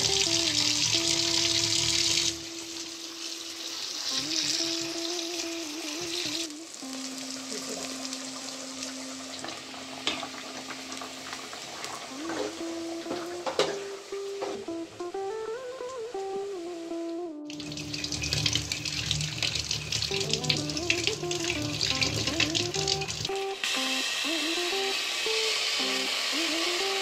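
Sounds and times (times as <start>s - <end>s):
food sizzling in a pan: 0.0s - 15.3s, 17.5s - 27.0s
soft instrumental melody: 0.0s - 27.0s.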